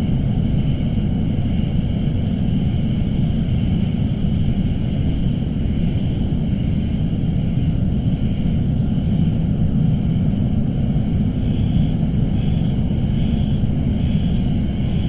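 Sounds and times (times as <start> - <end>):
dense low rumble: 0.0 - 15.0.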